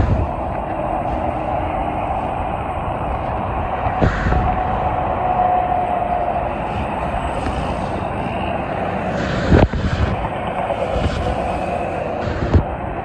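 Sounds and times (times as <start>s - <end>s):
highway traffic passing: 0.0s - 13.0s
steady whine: 0.0s - 13.0s
wind on microphone: 0.0s - 13.0s.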